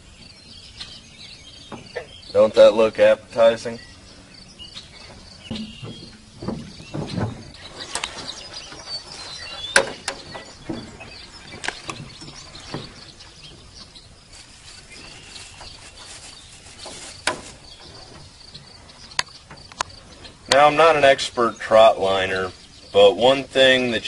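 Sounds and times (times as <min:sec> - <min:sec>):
bird chirps: 0:00.0 - 0:24.0.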